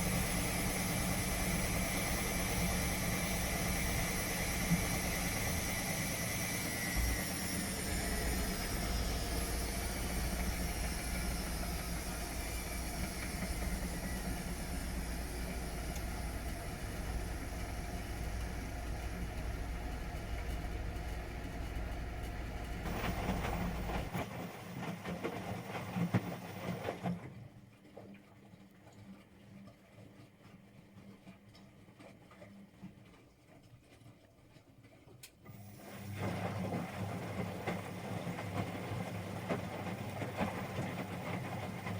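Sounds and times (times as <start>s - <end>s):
washing machine spinning: 0.0s - 27.9s, 35.5s - 41.9s
washing machine rattling and clicking: 0.0s - 28.0s, 34.8s - 41.9s.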